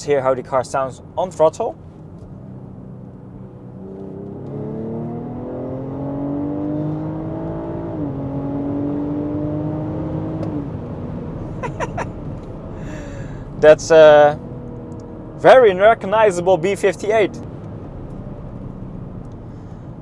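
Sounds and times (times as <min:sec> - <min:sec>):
car engine accelerating: 0:01.8 - 0:20.0.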